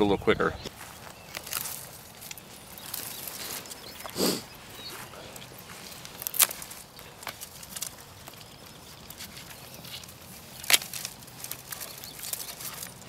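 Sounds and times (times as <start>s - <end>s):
dry canes rustling: 0.7s - 13.0s
loppers snapping dry canes: 1.3s - 4.3s, 5.3s - 13.0s.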